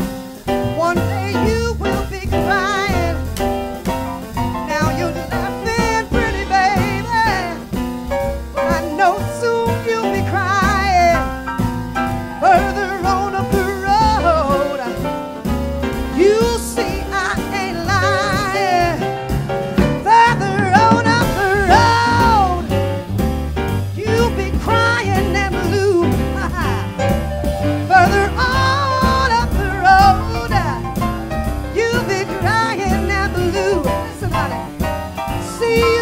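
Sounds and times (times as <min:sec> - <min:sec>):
drum kit: 0:00.0 - 0:36.0
piano: 0:00.0 - 0:36.0
upright bass: 0:00.0 - 0:36.0
woman singing blues: 0:00.6 - 0:03.6, 0:04.5 - 0:07.9, 0:08.6 - 0:11.5, 0:12.4 - 0:15.2, 0:16.0 - 0:19.2, 0:19.8 - 0:22.8, 0:23.9 - 0:36.0.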